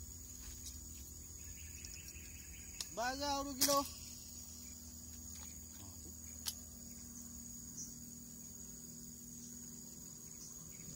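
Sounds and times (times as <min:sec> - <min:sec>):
insects chirring: 0:00.0 - 0:10.9.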